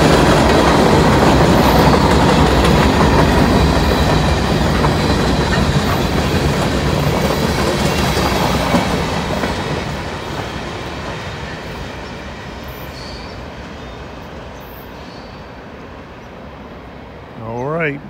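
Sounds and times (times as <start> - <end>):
train wheels on track: 0.0 - 18.0.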